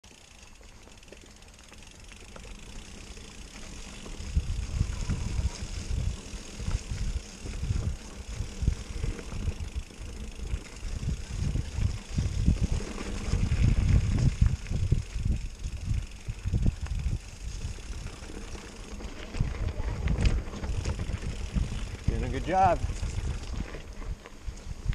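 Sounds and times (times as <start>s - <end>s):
bike tyre and trail noise: 0.0s - 24.9s.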